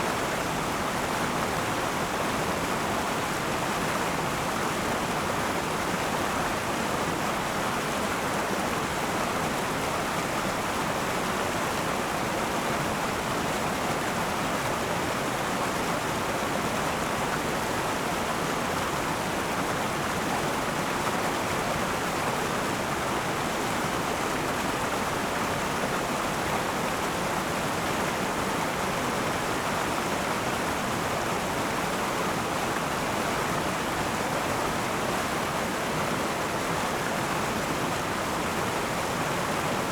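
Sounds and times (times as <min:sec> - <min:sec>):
river water rushing over rocks: 0:00.1 - 0:39.9.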